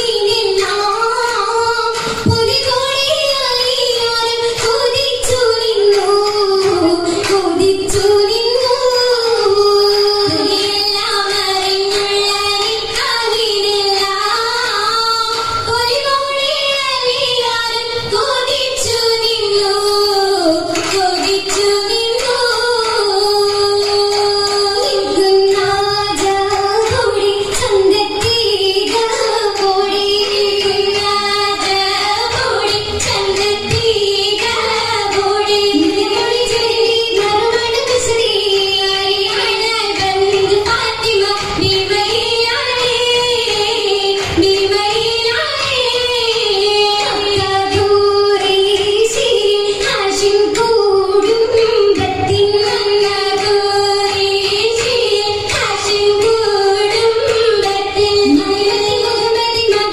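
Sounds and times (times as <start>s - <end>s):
musical backing: 0.0s - 59.9s
woman singing: 0.0s - 59.9s.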